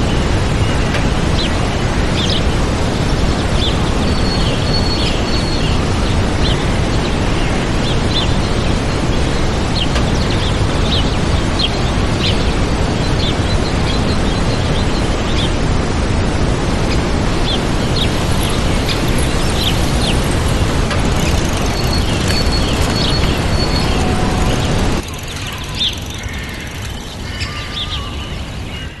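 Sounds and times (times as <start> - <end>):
waterfall rushing: 0.0 - 27.3
small birds chirping and whistling: 3.6 - 15.5, 16.9 - 29.0.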